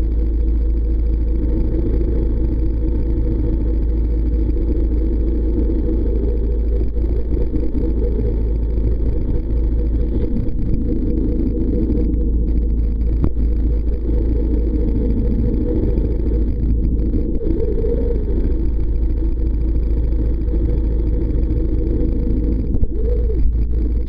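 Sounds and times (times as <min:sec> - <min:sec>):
muffled boat engine rumbling: 0:00.0 - 0:24.0.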